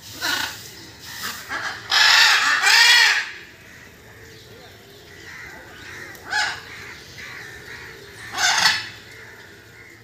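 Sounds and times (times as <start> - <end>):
birds chattering: 0.0 - 10.0
harsh bird calls: 0.0 - 10.0.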